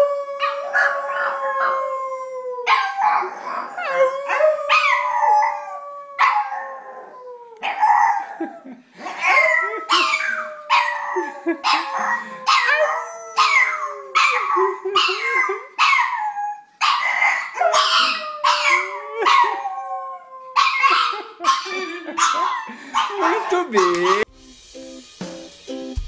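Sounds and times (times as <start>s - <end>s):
dog howling: 0.0s - 8.3s, 9.2s - 24.3s.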